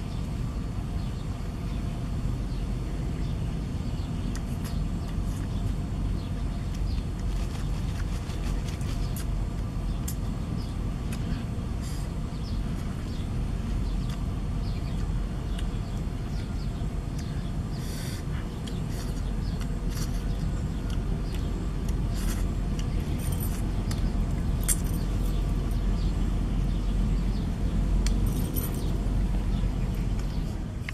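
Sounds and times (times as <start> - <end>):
low outdoor rumble: 0.0 - 30.9.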